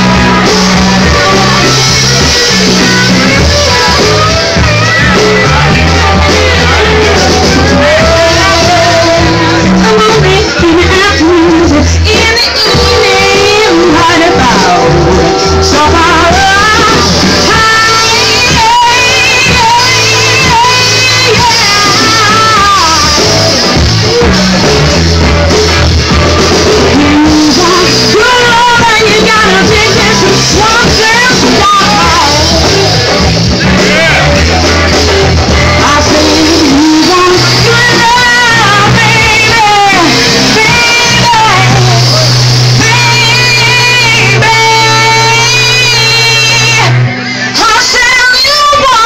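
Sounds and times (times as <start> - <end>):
live blues band playing: 0.0 - 49.0
person singing: 0.0 - 49.0.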